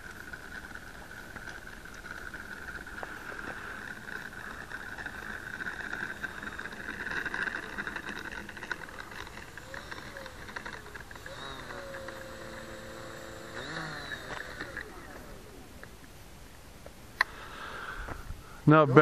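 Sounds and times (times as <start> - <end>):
model plane motor whining: 0.0 - 16.1.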